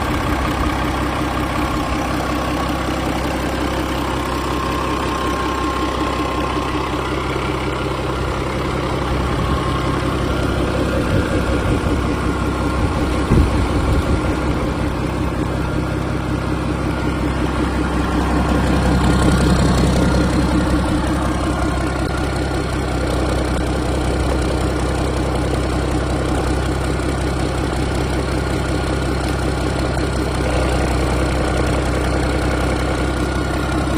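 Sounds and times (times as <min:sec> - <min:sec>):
marine diesel engine idling: 0:00.0 - 0:33.9.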